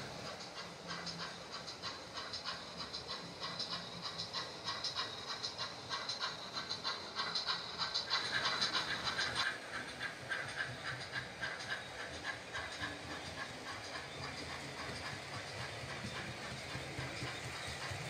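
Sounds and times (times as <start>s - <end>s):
model train steam chuffs: 0.0s - 18.0s
model train wheels rumbling: 0.0s - 18.0s.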